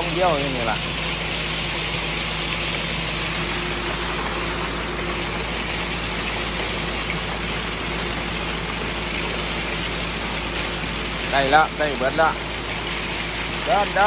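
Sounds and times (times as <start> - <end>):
concrete gushing down chute: 0.0 - 14.0
truck engine hum: 0.0 - 14.0.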